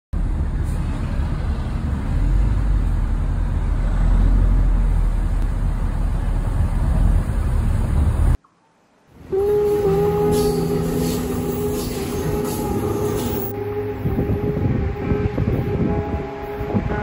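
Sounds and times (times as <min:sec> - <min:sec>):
city street traffic: 0:00.1 - 0:08.4, 0:09.2 - 0:17.0.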